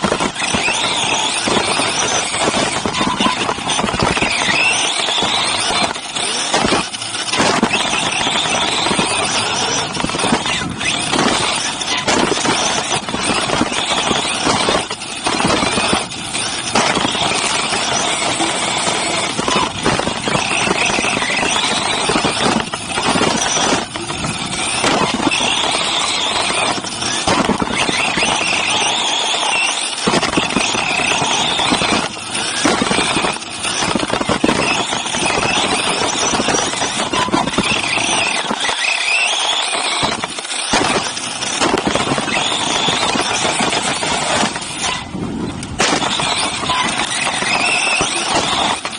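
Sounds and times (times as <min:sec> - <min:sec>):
rc car motor whine: 0:00.0 - 0:48.9
tyres on dirt: 0:00.0 - 0:48.9.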